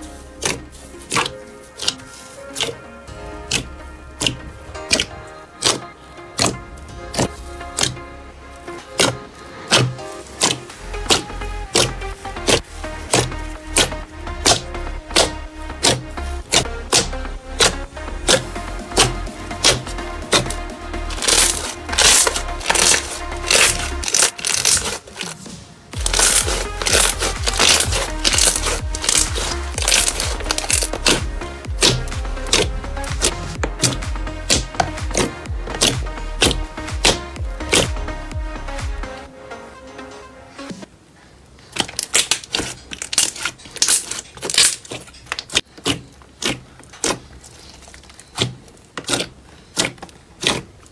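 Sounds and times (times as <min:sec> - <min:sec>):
slime squelching by hand: 0:00.0 - 0:39.2, 0:41.5 - 0:50.9
background music with bass: 0:00.0 - 0:40.9.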